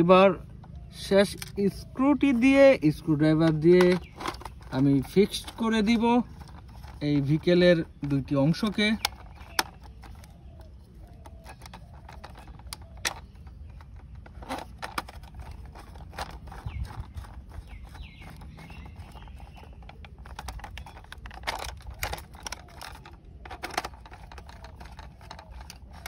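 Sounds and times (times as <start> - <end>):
low steady rumble: 0.0 - 26.0
screwdriver and plastic clicks: 3.4 - 26.0.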